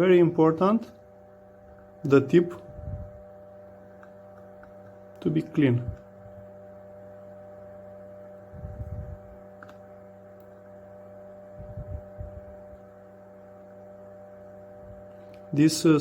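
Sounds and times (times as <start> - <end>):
fume extractor fan hum: 0.0 - 16.0.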